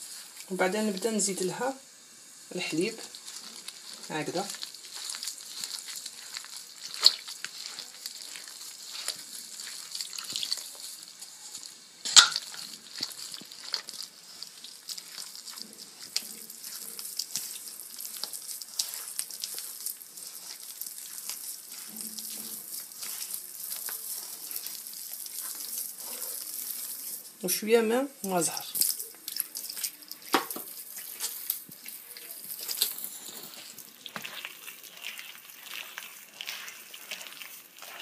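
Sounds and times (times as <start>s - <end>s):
dough mixing crackly rustle: 0.0s - 38.0s.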